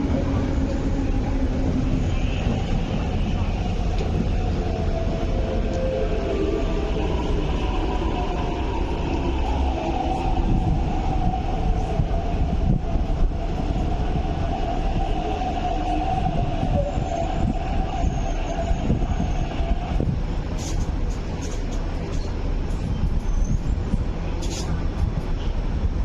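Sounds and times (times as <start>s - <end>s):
train rumbling and whining: 0.0s - 26.0s.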